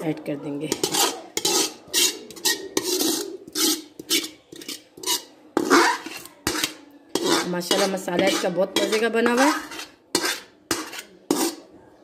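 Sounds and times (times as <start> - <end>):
metal spoon scraping steel pot: 0.6 - 11.7.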